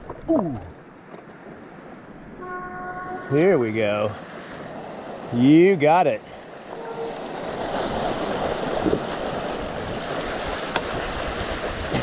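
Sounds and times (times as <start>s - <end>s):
creek water rushing and splashing: 0.0s - 12.0s
bike tyres riding through water: 1.0s - 12.0s.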